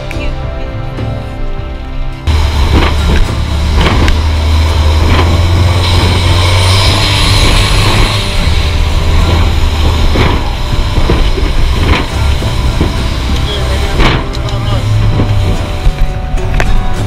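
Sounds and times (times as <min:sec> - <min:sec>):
boat engine droning: 0:00.0 - 0:17.0
wind and water rushing: 0:02.3 - 0:16.5.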